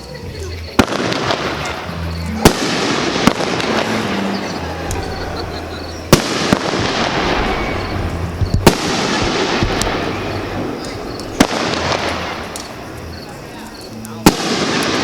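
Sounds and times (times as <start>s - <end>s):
firework hiss: 0.4s - 15.0s
firework shells bursting: 0.8s - 15.0s.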